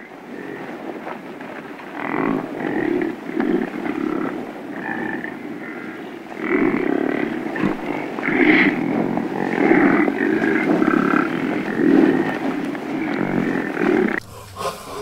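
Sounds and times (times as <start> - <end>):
bison calling: 1.9 - 15.0.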